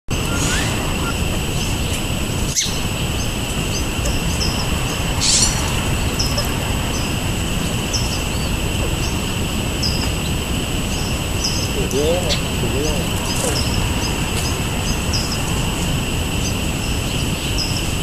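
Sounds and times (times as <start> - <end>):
low background rumble: 0.1 - 18.0
songbirds chirping: 0.1 - 18.0
steady high hiss: 0.1 - 18.0.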